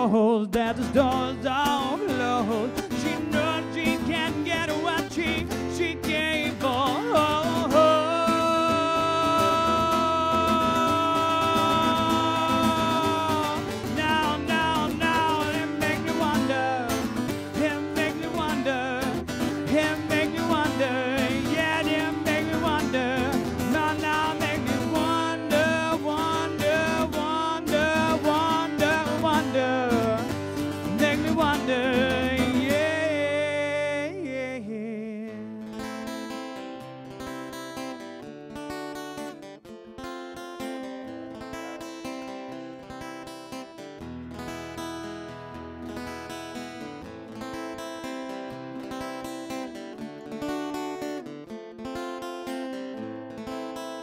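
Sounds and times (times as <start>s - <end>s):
acoustic guitar strumming: 0.0s - 54.0s
live band with guitars: 0.6s - 54.0s.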